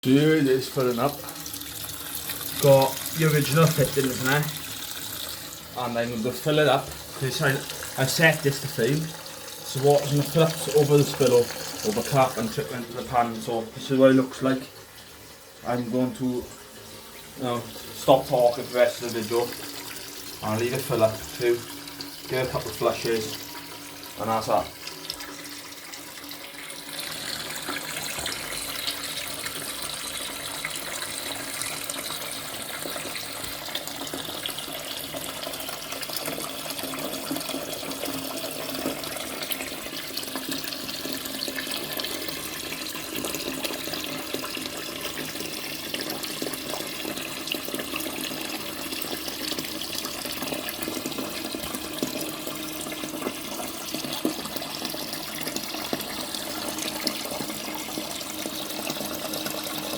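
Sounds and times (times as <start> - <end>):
toilet cistern filling: 0.0 - 59.9.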